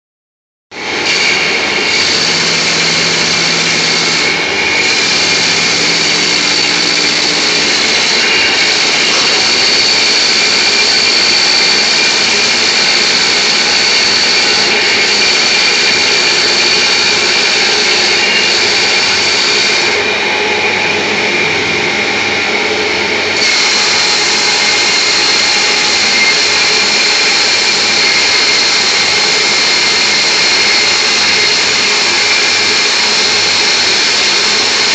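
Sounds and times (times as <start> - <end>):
woodturning lathe running: 0.8 - 34.9.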